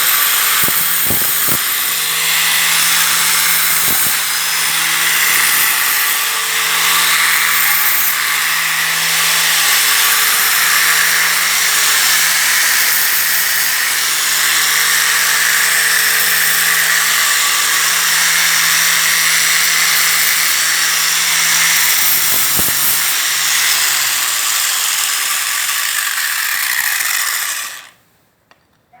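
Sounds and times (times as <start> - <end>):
angle grinder grinding: 0.0 - 28.0.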